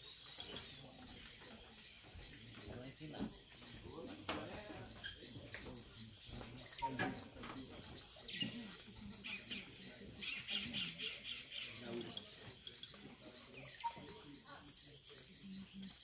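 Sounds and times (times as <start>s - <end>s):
bird chirps: 0.0s - 16.0s
insect chorus buzzing: 0.0s - 16.0s.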